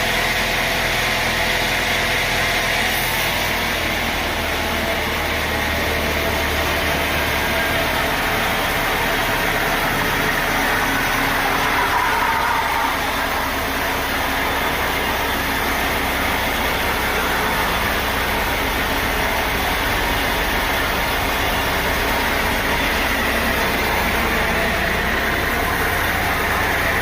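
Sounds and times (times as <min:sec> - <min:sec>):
sawmill machinery droning: 0:00.0 - 0:27.0.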